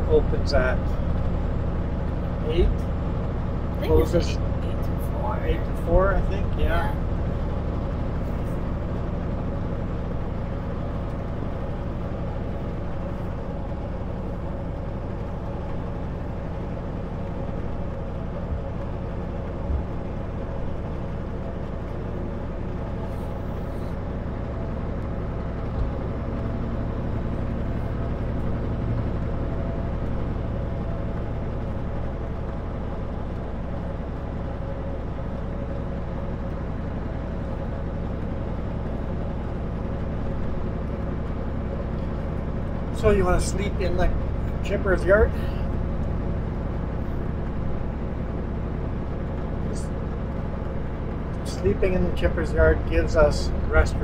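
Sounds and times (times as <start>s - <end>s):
road noise: 0.0s - 54.0s
truck diesel engine running: 0.0s - 54.0s.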